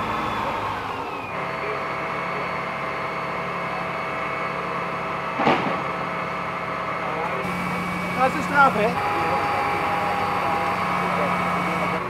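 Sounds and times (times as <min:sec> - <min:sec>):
fire engine running: 0:00.0 - 0:12.0.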